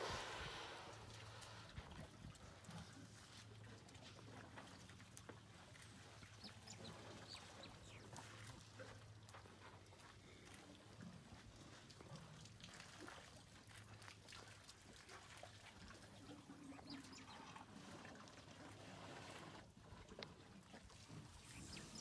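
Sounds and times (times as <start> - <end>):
elephants siphoning water: 0.0 - 9.0, 9.8 - 22.0
water trickling and splashing: 0.0 - 22.0.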